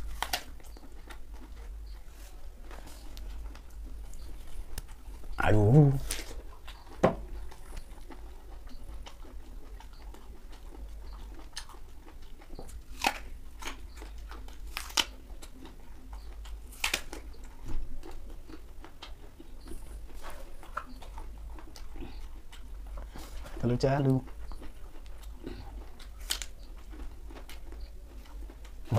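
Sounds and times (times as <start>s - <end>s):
apple crunching bites: 0.0s - 2.0s, 4.6s - 28.9s
low steady hum: 0.0s - 28.9s
quiet chewing: 0.0s - 28.9s.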